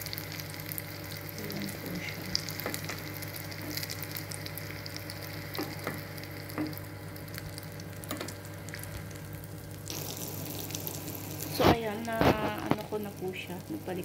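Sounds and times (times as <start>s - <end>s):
omelette sizzling in a pan: 0.0s - 14.0s.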